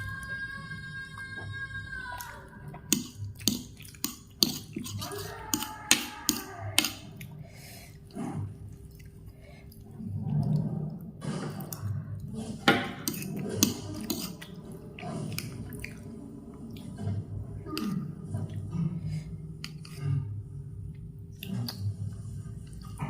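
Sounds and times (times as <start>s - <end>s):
chewing and slurping noodles: 2.2s - 23.0s.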